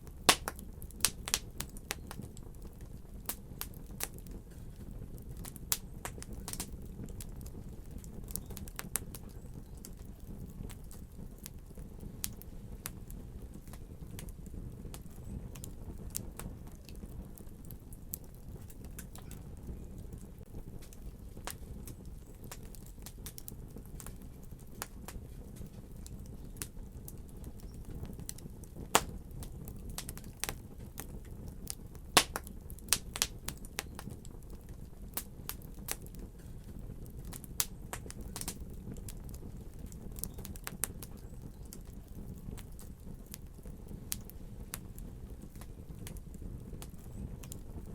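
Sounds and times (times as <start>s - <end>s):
fire crackles and pops: 0.0s - 47.9s
fire flame rumble: 0.0s - 47.9s.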